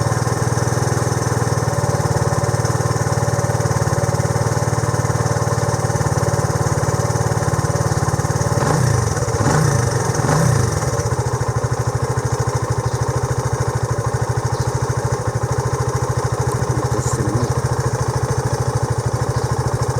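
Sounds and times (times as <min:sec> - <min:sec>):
motorcycle engine idling and revving: 0:00.0 - 0:19.9.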